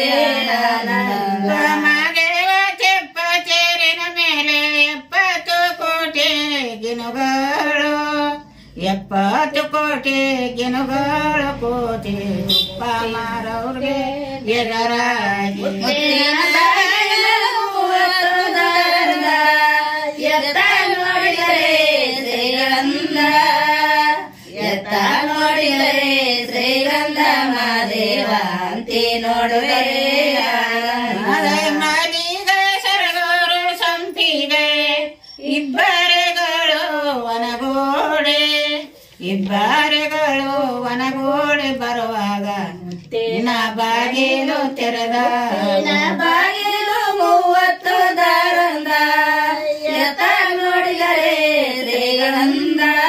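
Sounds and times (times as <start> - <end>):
women singing unaccompanied: 0.0 - 53.0.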